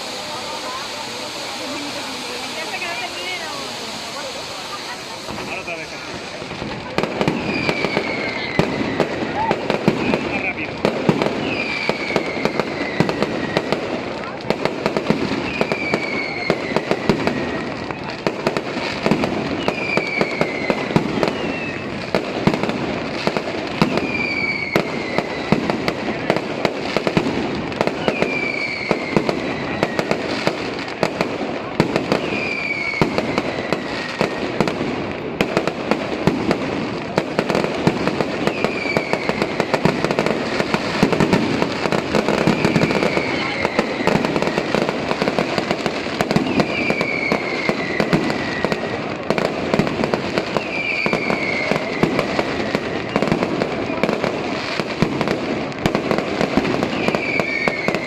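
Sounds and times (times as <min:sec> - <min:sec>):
falling firework whistle: 0:00.0 - 0:58.0
fireworks crackling and popping: 0:00.0 - 0:58.0.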